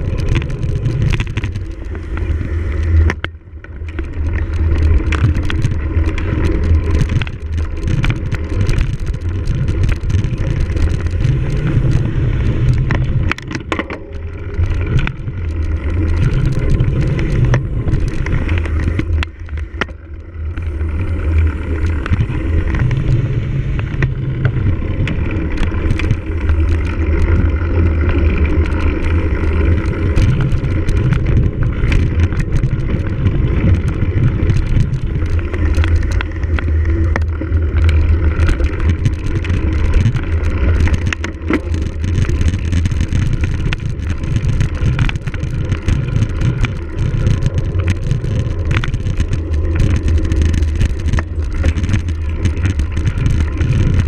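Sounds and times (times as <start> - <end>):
bike rattling and knocking: 0.0 - 54.0
bike tyre noise: 0.0 - 54.0
wind rumble on microphone: 0.0 - 54.0.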